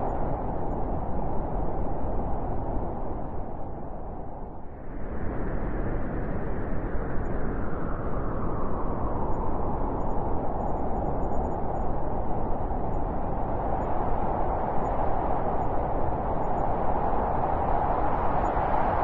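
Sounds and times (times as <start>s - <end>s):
wind blowing: 0.0s - 19.0s.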